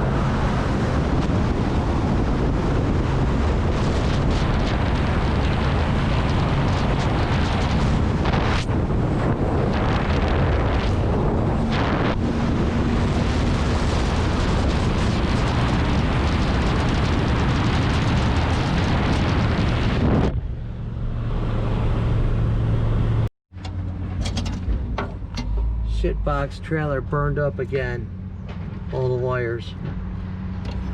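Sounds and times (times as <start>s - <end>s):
rushing wind and road noise: 0.0s - 30.9s
truck engine hum: 0.0s - 30.9s.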